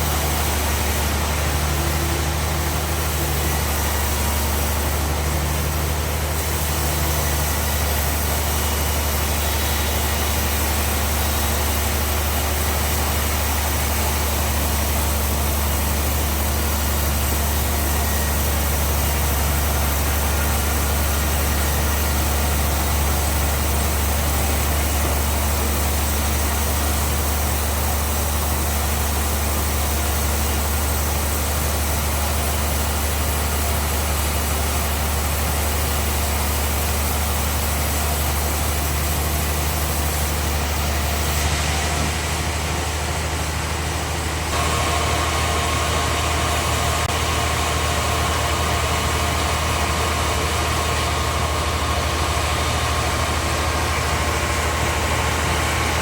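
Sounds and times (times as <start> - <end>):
bandsaw machinery humming: 0.0 - 56.0.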